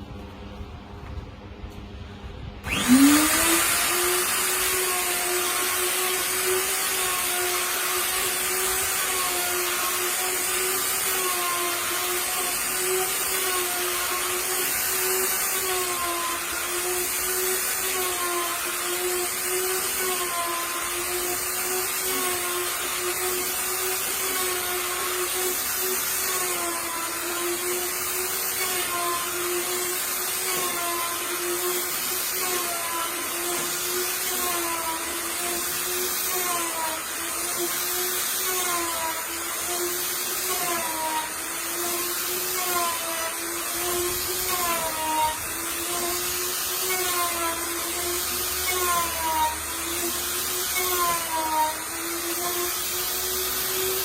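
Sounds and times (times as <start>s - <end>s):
wood router motor whining: 2.5s - 54.0s.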